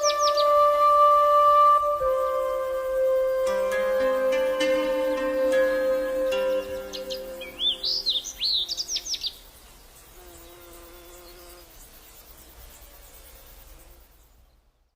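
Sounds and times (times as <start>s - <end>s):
faint steady buzzing: 0.0s - 14.7s
songbird singing: 0.0s - 14.9s.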